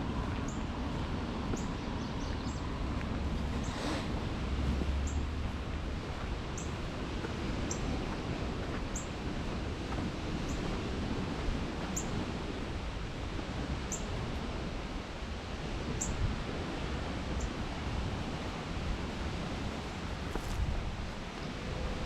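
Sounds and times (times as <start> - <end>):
steady rushing outdoor noise: 0.0 - 22.0.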